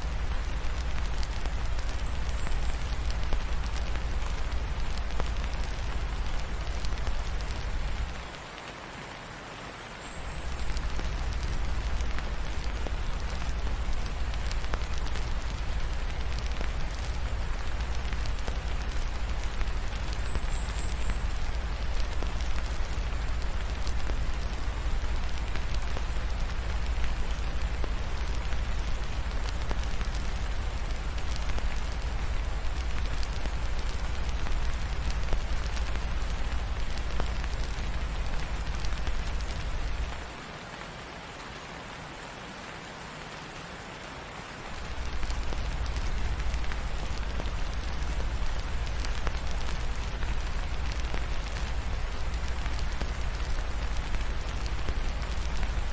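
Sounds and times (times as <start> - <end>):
fireplace crackling: 0.0 - 8.6, 10.1 - 40.4, 44.7 - 55.9
steady rain falling: 0.0 - 55.9.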